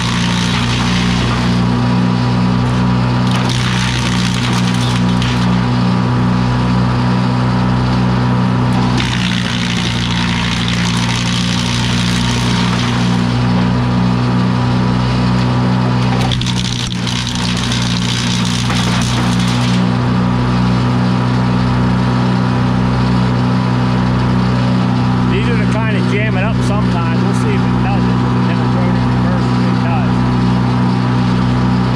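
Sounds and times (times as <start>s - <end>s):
wood chipper engine running: 0.0s - 31.9s.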